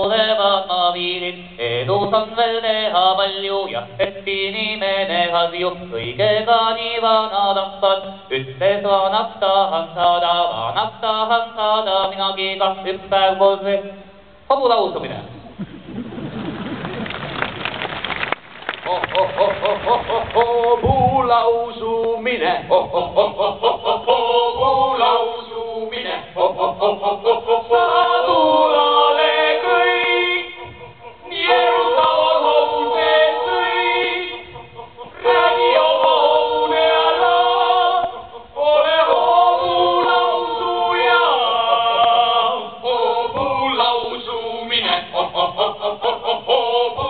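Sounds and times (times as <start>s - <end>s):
group singing a cappella: 0.0s - 13.8s, 18.9s - 47.0s.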